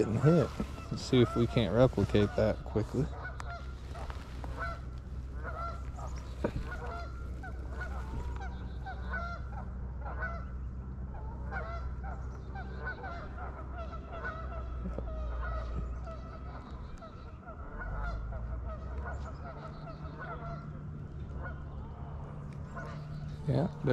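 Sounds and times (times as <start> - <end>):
geese honking: 0.0 - 23.9.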